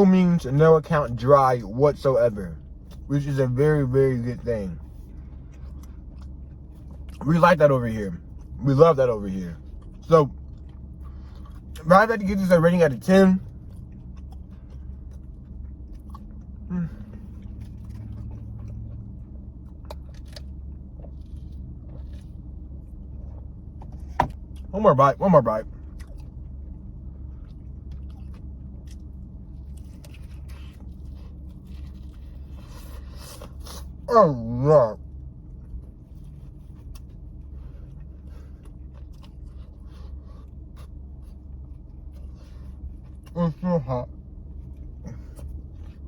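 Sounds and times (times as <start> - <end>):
chewing crispy food: 0.0 - 46.0
steady low hum: 0.0 - 46.0.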